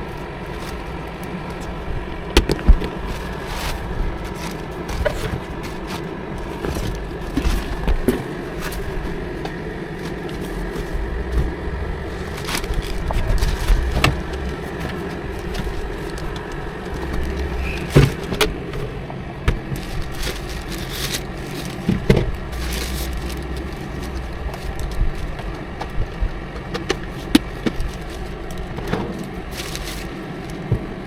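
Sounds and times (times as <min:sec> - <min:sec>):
truck engine rumble: 0:00.0 - 0:31.0.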